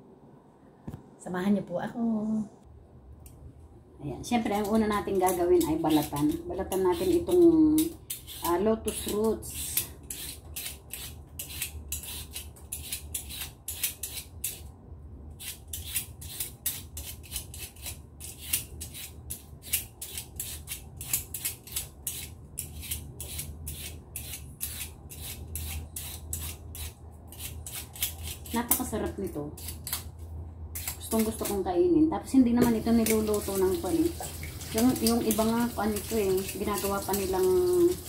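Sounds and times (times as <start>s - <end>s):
peeler scraping vegetable skin: 4.4s - 14.7s, 15.3s - 30.2s, 30.8s - 31.6s, 32.7s - 38.0s.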